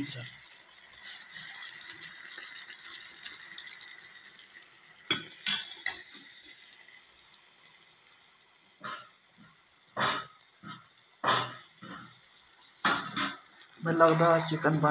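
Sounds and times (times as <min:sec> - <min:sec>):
curry sizzling in pan: 0:00.0 - 0:14.9.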